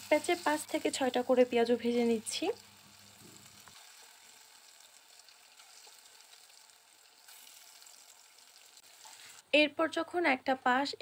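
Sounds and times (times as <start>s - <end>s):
fritters sizzling in hot oil: 0.0s - 9.5s.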